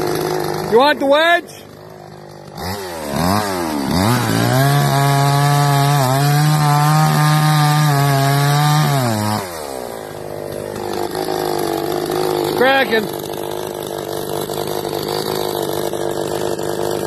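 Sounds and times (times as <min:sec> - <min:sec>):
chainsaw revving and cutting wood: 0:00.0 - 0:17.0.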